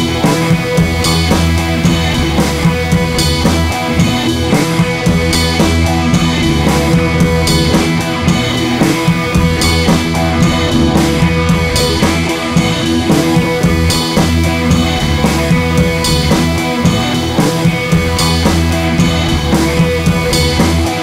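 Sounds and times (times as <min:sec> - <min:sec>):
rock music with drums and guitar: 0:00.0 - 0:21.0.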